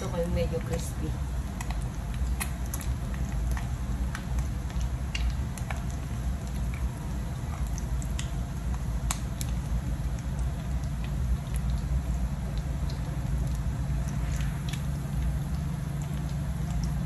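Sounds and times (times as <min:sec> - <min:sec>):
patties frying with pops: 0:00.0 - 0:17.0.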